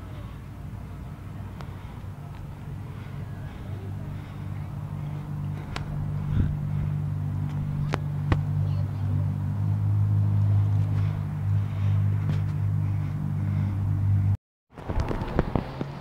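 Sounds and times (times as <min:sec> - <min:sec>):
bicycle rolling rumble: 0:00.0 - 0:16.0.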